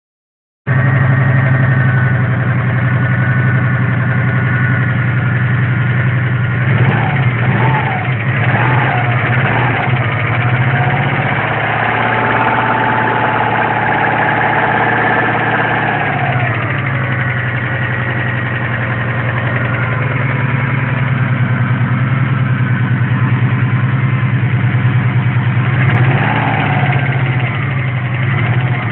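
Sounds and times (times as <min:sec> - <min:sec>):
car engine running with knock: 0:00.7 - 0:28.9.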